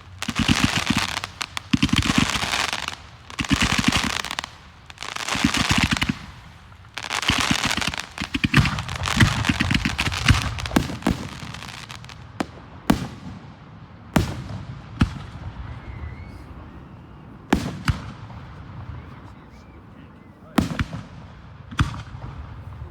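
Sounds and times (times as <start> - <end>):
firework bangs: 0.0 - 19.8, 20.5 - 22.9
fireworks crackling: 0.0 - 22.9.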